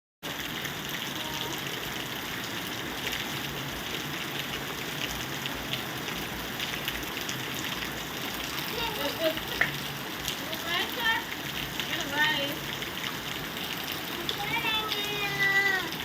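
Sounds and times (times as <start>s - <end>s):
steady rainfall pattering: 0.2s - 16.0s.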